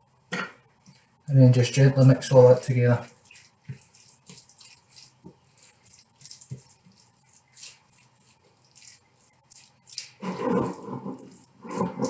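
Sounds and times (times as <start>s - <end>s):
wet squelching of mixing: 0.6s - 12.0s.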